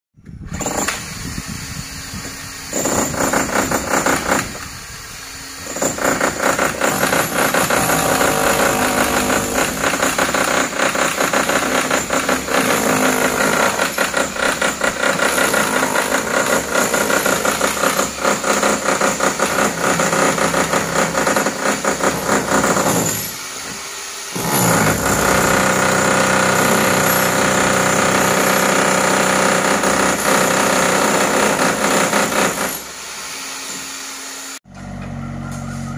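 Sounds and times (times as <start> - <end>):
demolition hammer chiselling concrete: 0.6 - 1.2, 2.6 - 4.8, 5.6 - 23.7, 24.3 - 32.9.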